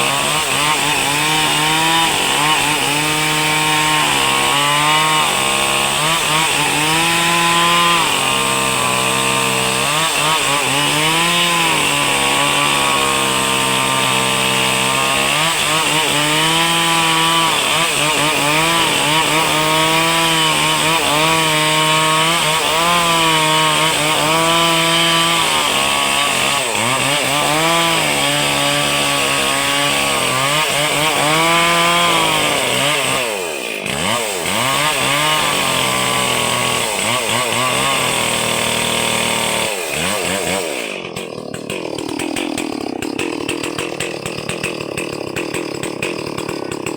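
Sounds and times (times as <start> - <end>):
small engine revving hard: 0.0 - 46.9.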